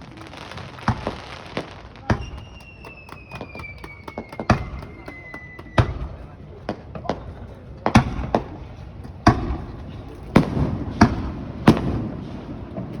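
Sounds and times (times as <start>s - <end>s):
fireworks shells booming: 0.0s - 13.0s.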